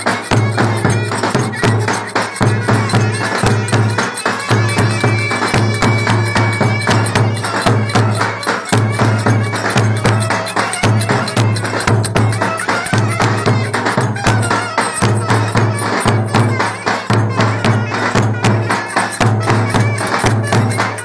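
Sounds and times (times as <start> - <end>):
clarinets playing dance tune: 0.0 - 21.0
hand percussion clicks: 0.0 - 21.0
pulsing drum beat: 0.0 - 21.0.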